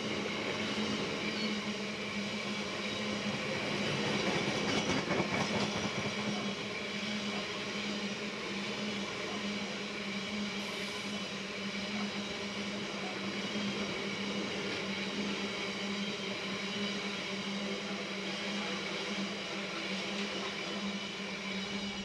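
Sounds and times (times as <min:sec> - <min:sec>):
train wheels rolling on rails: 0:00.0 - 0:22.0.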